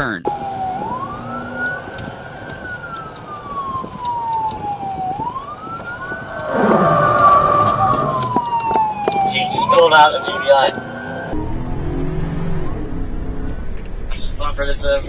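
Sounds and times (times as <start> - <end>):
police siren wailing: 0.3 - 13.8
vehicle rushing: 0.3 - 15.0.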